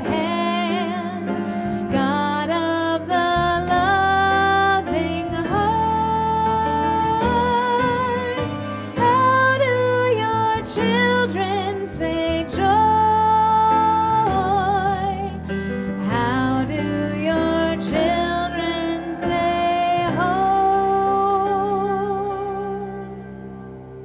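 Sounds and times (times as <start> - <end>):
instrumental accompaniment: 0.0 - 24.0.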